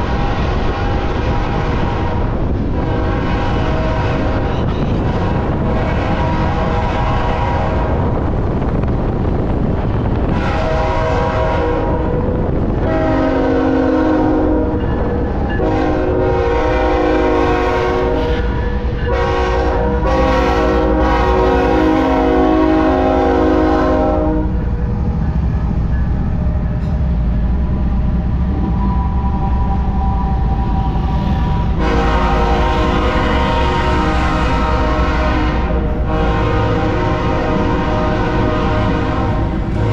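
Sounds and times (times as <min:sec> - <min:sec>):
diesel engines and wheels rumbling: 0:00.0 - 0:39.9
locomotive air horn chord: 0:00.1 - 0:08.1, 0:10.3 - 0:24.7, 0:28.7 - 0:39.9.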